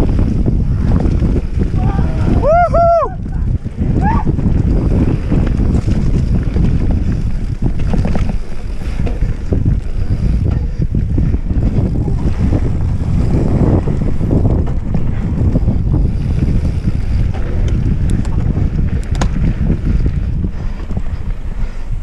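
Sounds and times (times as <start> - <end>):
tyres rumbling on dirt trail: 0.0 - 22.0
wind buffeting microphone: 0.0 - 22.0.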